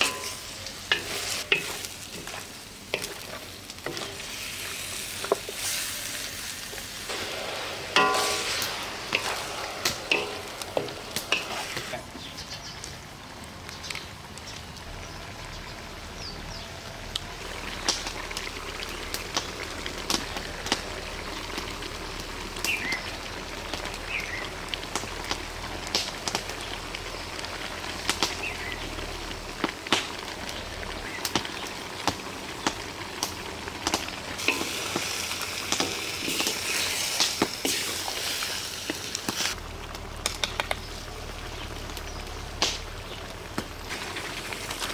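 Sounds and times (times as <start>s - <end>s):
chicken sizzling in a wok: 0.0s - 44.9s
crackles and clicks of frying: 0.0s - 44.9s.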